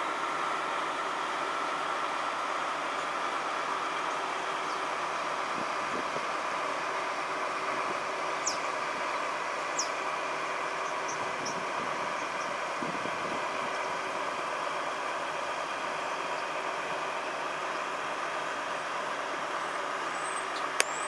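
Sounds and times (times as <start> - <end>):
bus engine and fan hum: 0.0 - 21.0.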